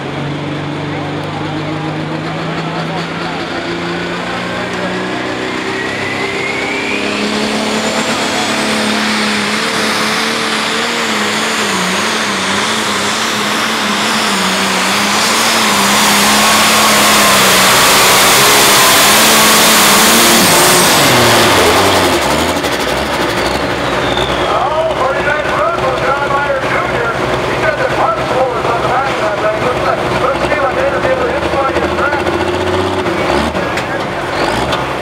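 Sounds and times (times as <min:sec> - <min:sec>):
diesel tractor engine under load: 0:00.0 - 0:35.0.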